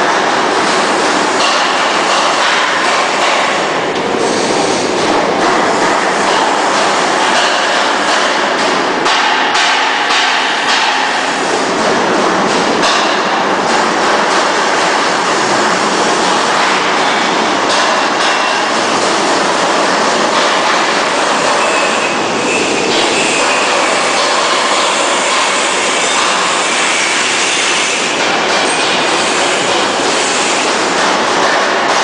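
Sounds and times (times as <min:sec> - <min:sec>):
sorting machine clatter: 0:00.0 - 0:32.0.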